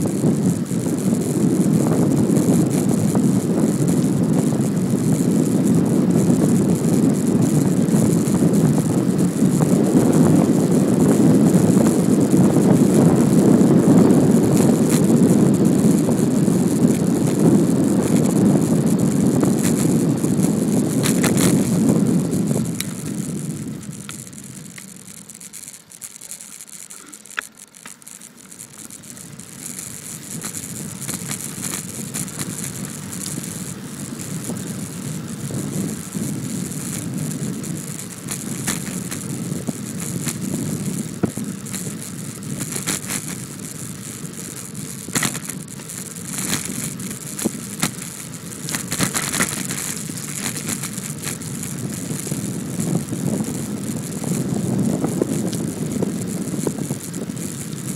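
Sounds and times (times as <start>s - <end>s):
wind and road rush: 0.0s - 57.9s.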